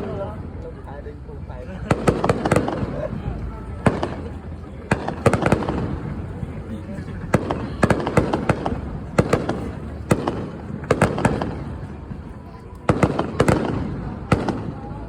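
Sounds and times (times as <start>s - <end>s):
fireworks bursting with sharp bangs: 1.8s - 15.0s.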